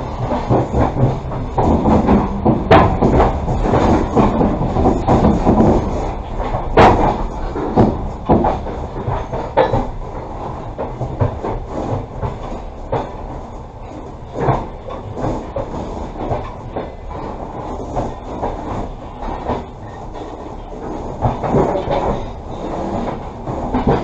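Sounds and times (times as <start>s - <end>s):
sharp knocks and clacks: 0.0s - 24.0s
train wheels rumbling on rail: 0.0s - 24.0s.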